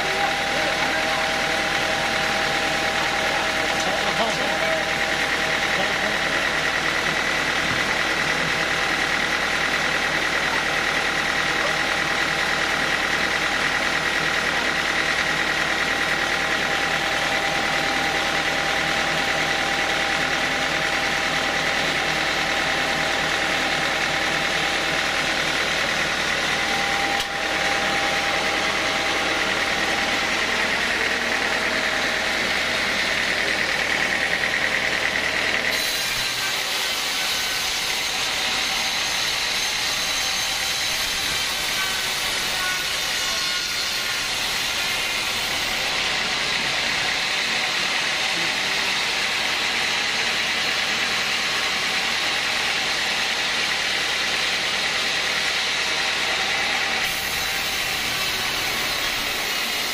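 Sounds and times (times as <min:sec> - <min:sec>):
band saw blade whine: 0:00.0 - 0:59.9
machine hum: 0:00.0 - 0:59.9.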